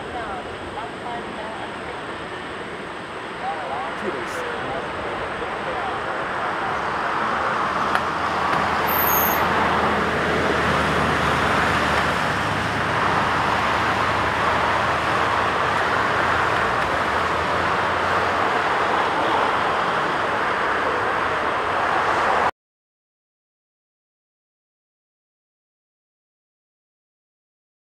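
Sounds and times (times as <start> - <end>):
jet engines roaring: 0.0 - 22.5.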